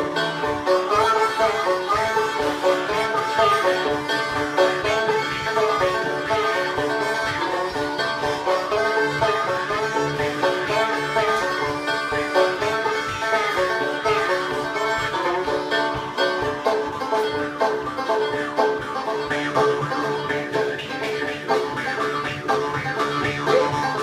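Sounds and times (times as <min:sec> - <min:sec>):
banjo picking: 0:00.0 - 0:24.0
harmonica wavering notes: 0:00.0 - 0:24.0
jew's harp twang: 0:00.0 - 0:24.0.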